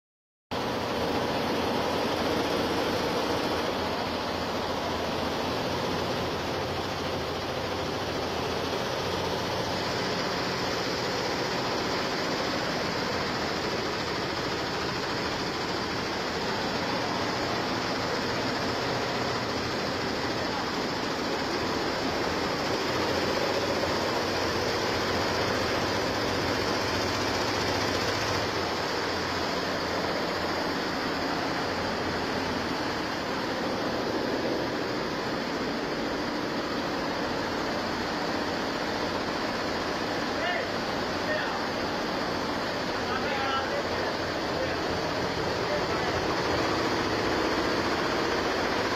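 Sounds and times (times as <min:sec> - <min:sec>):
constant machine hum: 0:00.6 - 0:48.9
embroidery machine clatter: 0:00.6 - 0:48.9.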